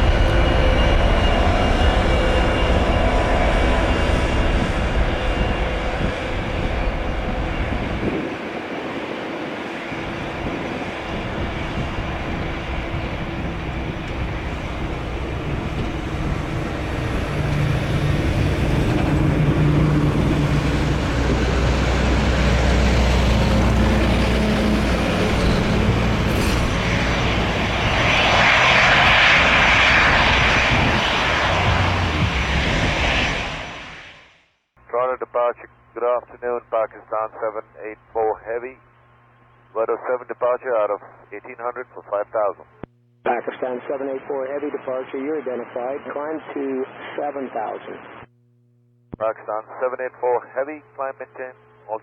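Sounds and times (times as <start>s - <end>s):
jet engines at takeoff thrust: 0.0s - 38.9s, 39.7s - 48.3s.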